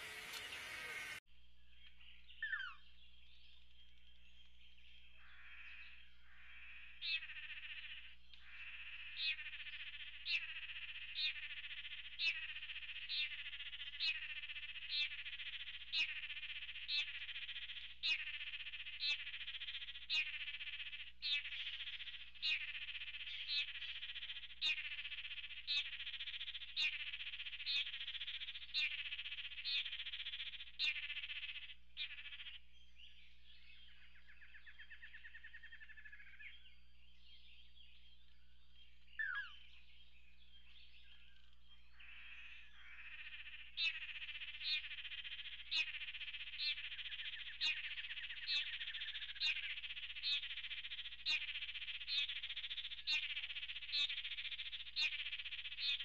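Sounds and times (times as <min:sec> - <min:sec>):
buzzy bird display calls: 0:00.0 - 0:56.0.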